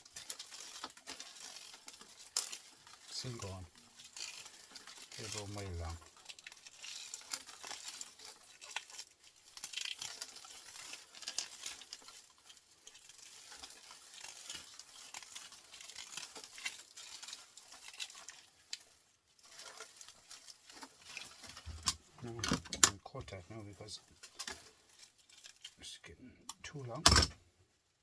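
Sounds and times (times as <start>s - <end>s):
wire crinkling as pulled off: 0.0s - 27.4s.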